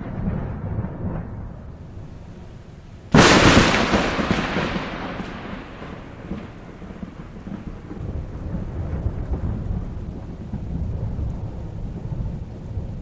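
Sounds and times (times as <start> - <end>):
heavy rain: 0.0 - 13.0
thunder crack and rumble: 0.0 - 13.0.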